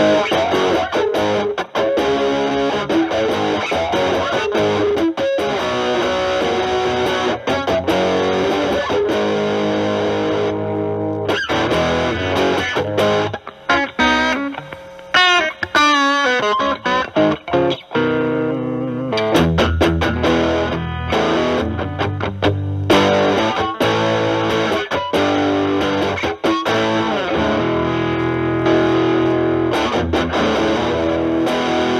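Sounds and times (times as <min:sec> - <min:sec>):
distorted electric guitar: 0:00.0 - 0:31.9.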